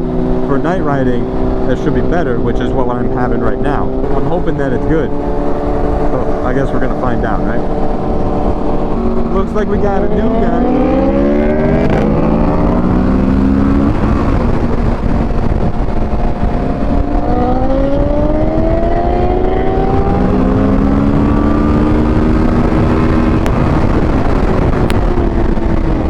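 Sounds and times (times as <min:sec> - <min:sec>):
motorcycle engine accelerating: 0:00.0 - 0:26.0
wind rush on microphone: 0:00.0 - 0:26.0.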